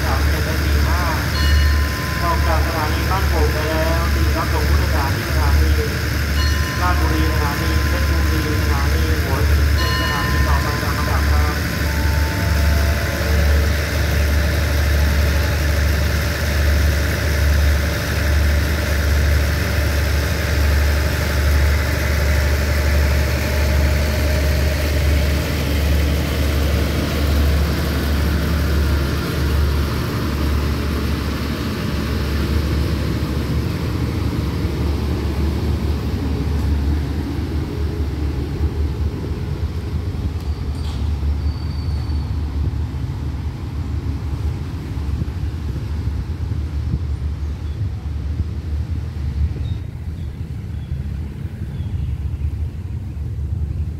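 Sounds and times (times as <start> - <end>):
train running hum: 0.0 - 53.9.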